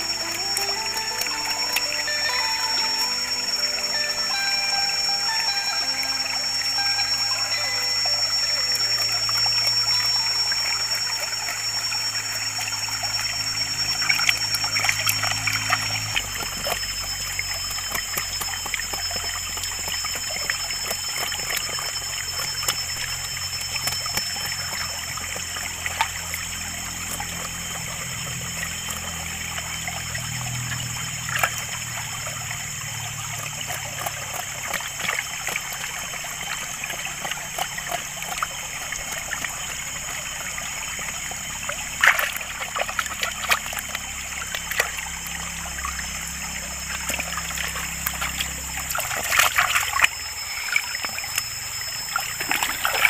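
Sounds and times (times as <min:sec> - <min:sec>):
stream trickling over rocks: 0:00.0 - 0:53.0.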